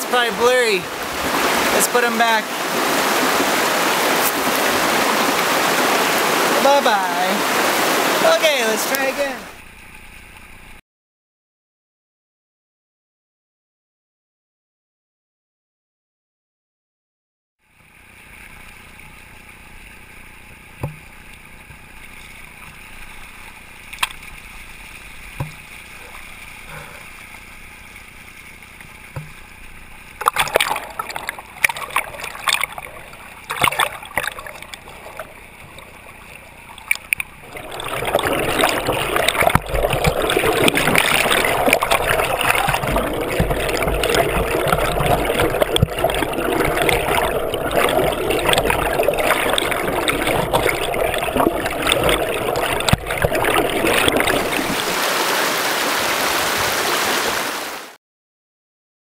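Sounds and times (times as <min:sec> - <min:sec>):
stream water rushing: 0:00.0 - 0:10.8, 0:18.0 - 0:58.0.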